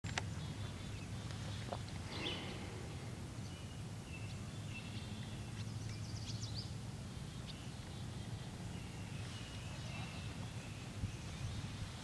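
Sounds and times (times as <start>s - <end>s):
small birds chirping: 0.1s - 12.0s
steady low hum: 0.2s - 12.0s.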